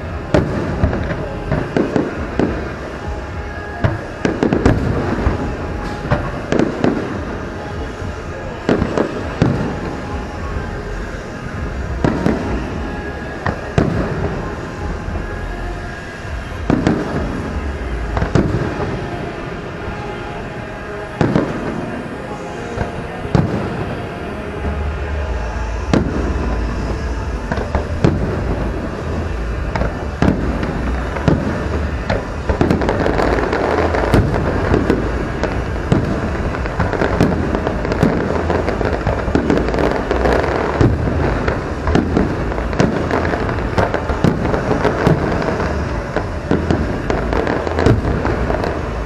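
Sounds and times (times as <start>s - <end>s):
fireworks bursting: 0.0s - 49.0s
low rumble and crackle: 0.0s - 49.0s.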